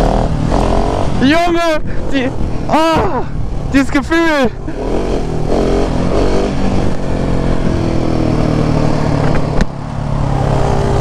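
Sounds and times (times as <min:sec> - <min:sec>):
motorcycle engines accelerating: 0:00.0 - 0:11.0.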